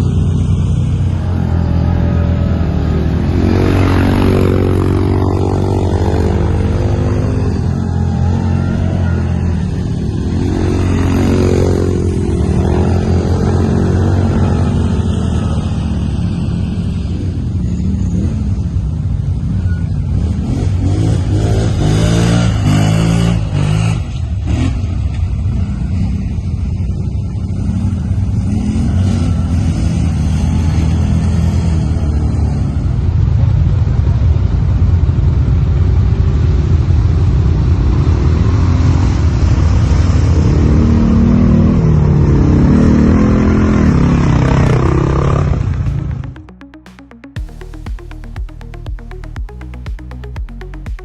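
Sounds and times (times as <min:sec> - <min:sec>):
quad bike engines revving: 0:00.0 - 0:46.7.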